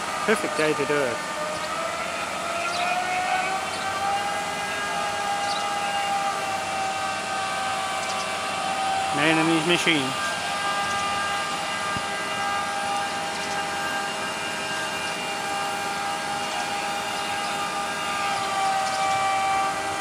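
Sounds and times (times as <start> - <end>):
crane engine drone: 0.0 - 20.0
hydraulics whining: 0.0 - 20.0.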